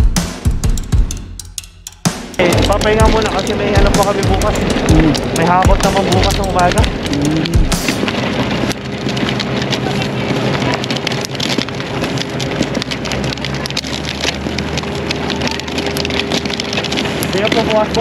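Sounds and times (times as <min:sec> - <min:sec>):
gritty crackling and rattling: 0:00.0 - 0:18.0.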